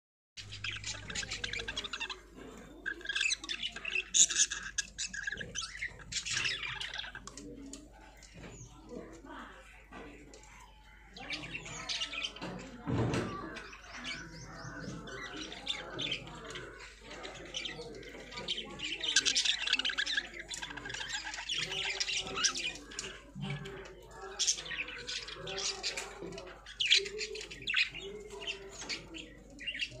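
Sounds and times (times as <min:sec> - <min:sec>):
budgerigars chattering: 0:00.4 - 0:30.0.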